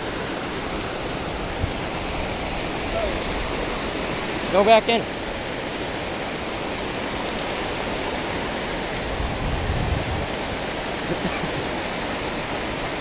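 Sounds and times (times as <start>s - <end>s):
water rushing over dam: 0.0s - 13.0s.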